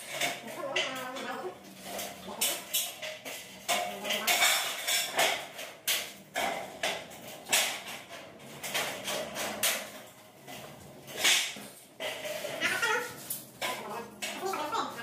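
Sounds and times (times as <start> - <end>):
metal knocks and clanks: 0.0 - 15.0.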